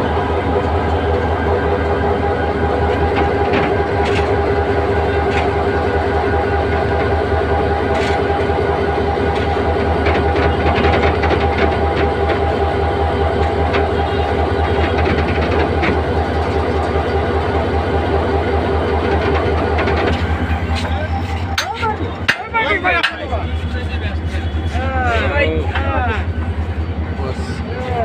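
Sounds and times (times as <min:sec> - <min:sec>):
wheels clicking on rails: 0:00.0 - 0:26.8
diesel locomotive engine humming: 0:00.0 - 0:28.0.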